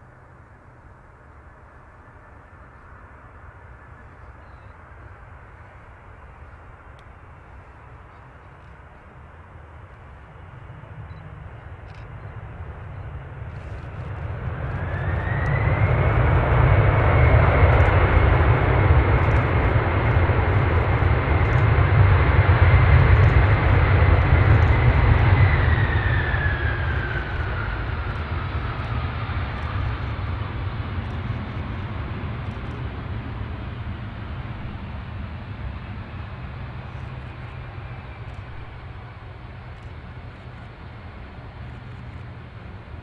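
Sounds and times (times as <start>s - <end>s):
jet airliner passing: 0.0s - 43.0s
jet engine whine: 0.0s - 43.0s.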